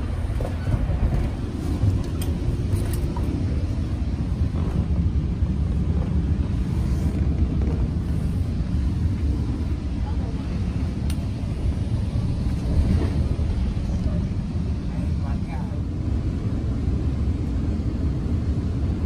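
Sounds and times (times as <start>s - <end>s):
train coach rumble from inside: 0.0s - 19.0s.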